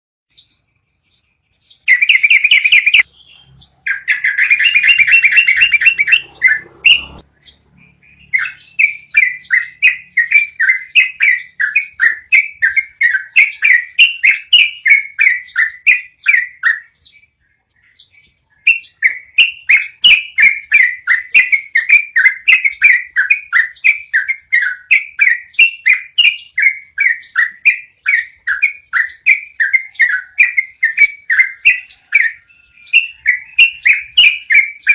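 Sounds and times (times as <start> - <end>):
bird singing rolling song: 0.3 - 34.9.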